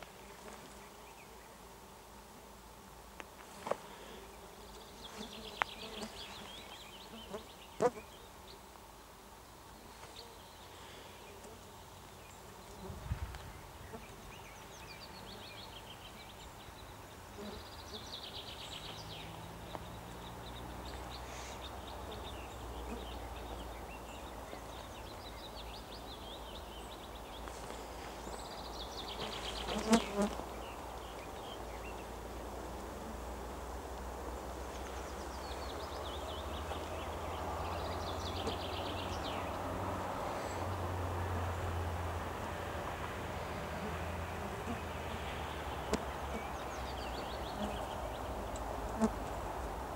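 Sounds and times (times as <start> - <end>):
gnats and flies buzzing: 0.0 - 41.6, 42.3 - 49.9.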